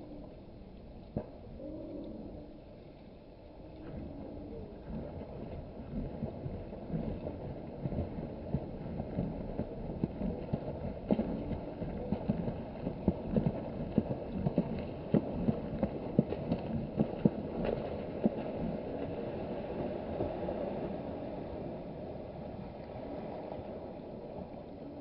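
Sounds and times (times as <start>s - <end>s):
swan wings slapping water: 1.0s - 25.0s.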